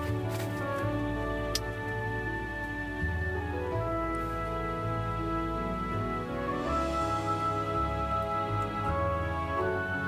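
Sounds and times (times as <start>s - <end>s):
slow held music chords: 0.0s - 10.0s.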